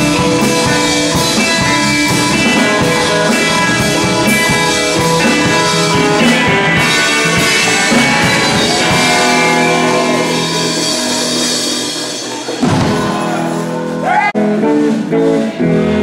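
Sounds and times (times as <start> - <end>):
drums: 0.0 - 16.0
electric guitars: 0.0 - 16.0
long held guitar notes: 0.0 - 16.0.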